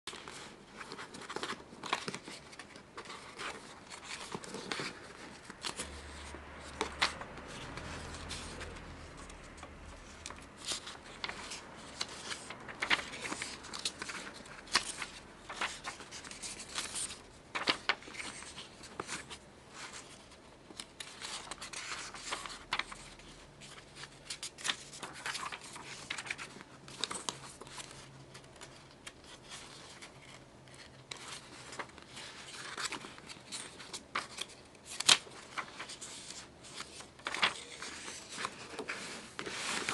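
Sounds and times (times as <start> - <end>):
stiff paper rustling and crinkling: 0.0 - 39.9.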